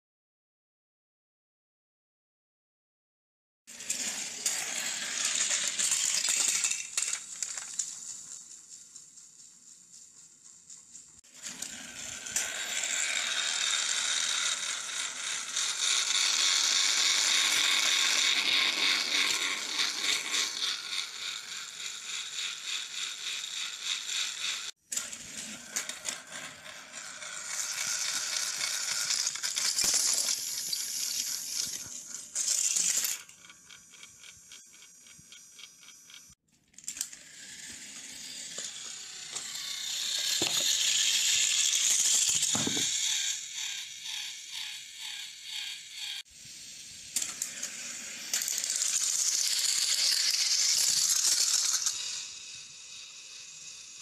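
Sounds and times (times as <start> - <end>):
toy train motors whirring and rattling: 3.7 - 54.0.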